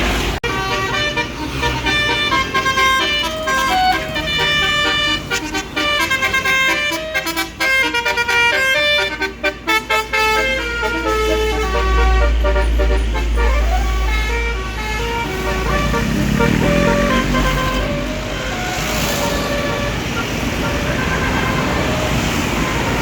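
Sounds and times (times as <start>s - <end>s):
multi-tone bus horn tune: 0.0s - 23.0s.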